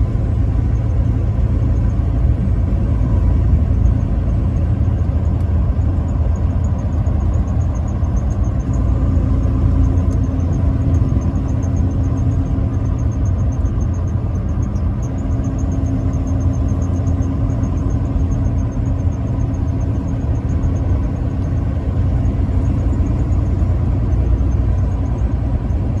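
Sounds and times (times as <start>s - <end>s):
vehicle driving rumble: 0.0s - 26.0s.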